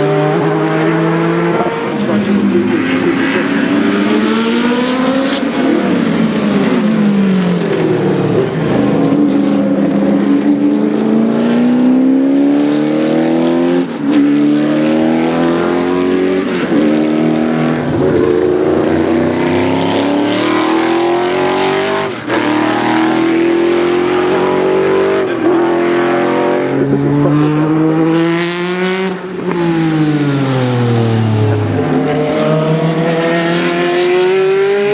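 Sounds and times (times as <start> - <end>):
race car engines at full throttle: 0.0 - 34.9.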